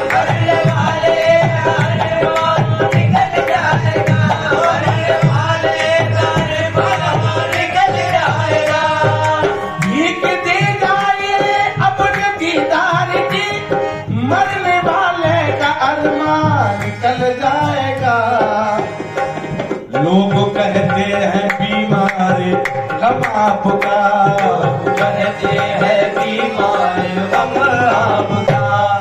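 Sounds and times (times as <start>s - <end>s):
hand drum rhythm: 0.0s - 29.0s
harmonium melody: 0.0s - 29.0s.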